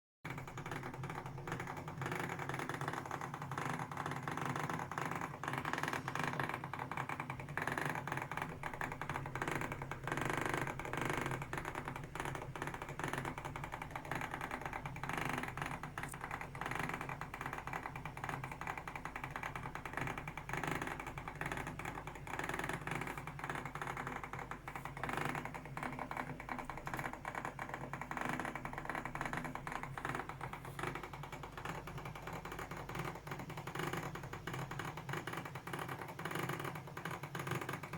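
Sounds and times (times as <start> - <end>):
stirring motor rattling and grinding: 0.3 - 37.9.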